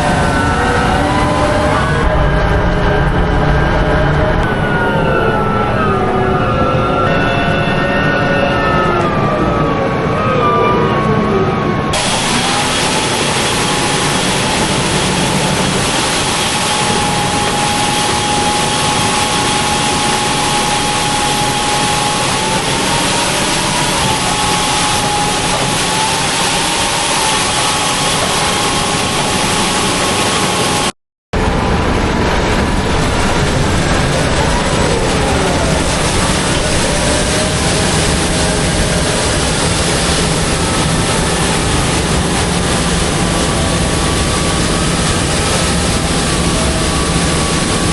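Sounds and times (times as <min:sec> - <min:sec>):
combine harvester running: 0:00.0 - 0:07.4, 0:11.7 - 0:47.9.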